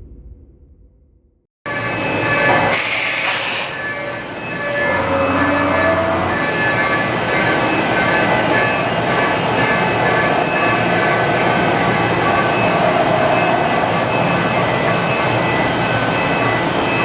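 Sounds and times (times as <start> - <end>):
machining center running: 1.7 - 17.0.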